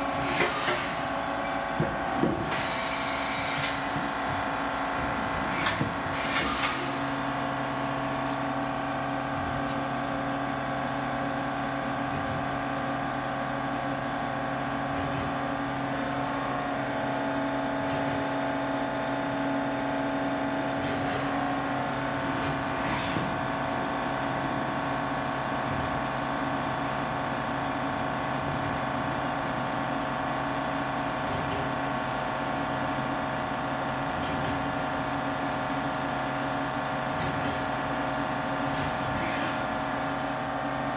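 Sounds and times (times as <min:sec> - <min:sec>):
high-pitched spindle whine: 0:06.4 - 0:40.9.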